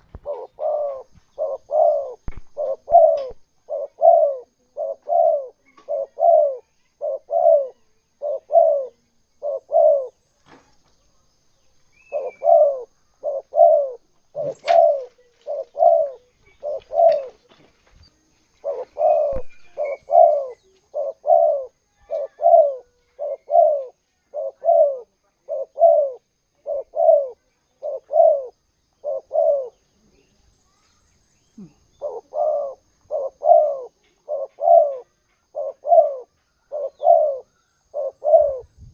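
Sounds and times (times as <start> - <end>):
dove cooing: 0.0 - 10.2, 12.0 - 17.6, 18.5 - 30.2, 31.6 - 38.9
faint high chirp: 0.0 - 38.9.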